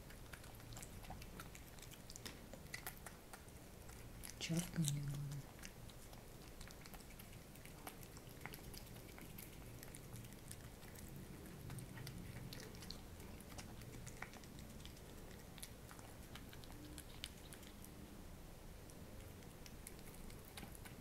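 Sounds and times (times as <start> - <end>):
cat chewing crunchy food: 0.0 - 21.0.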